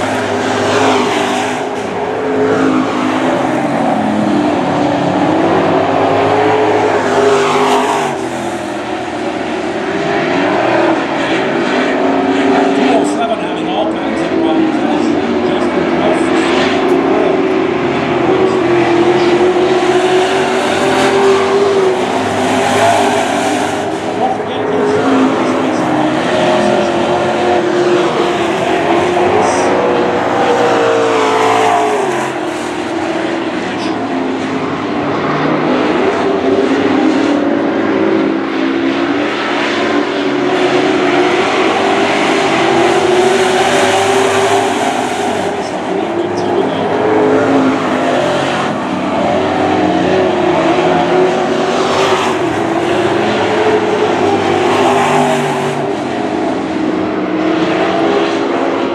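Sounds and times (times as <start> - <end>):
racing truck engines: 0.0 - 58.9.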